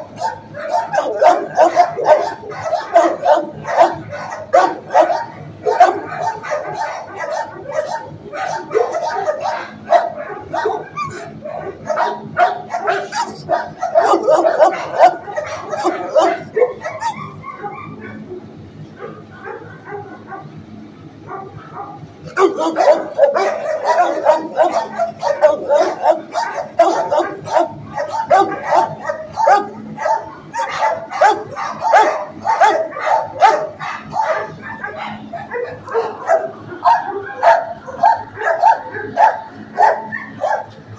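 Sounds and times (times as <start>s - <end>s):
dogs barking and yipping: 0.0s - 40.9s.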